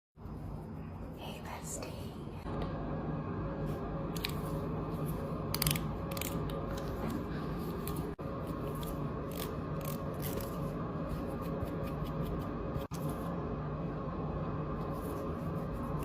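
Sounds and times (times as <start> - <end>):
steady low hum: 0.2 - 16.0.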